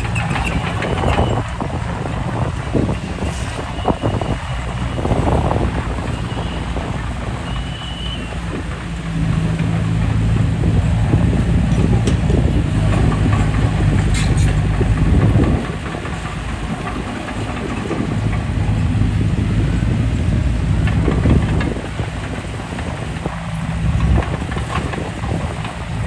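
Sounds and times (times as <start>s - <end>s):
bulldozer diesel engine under load: 0.0s - 26.0s.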